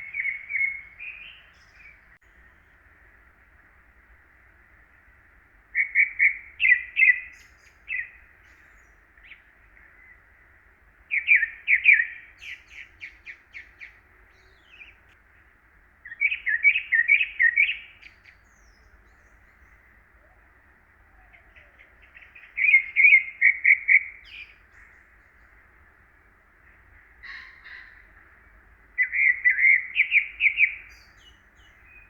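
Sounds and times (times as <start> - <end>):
faint steady hiss: 0.0 - 32.0
songbird singing: 0.0 - 32.0.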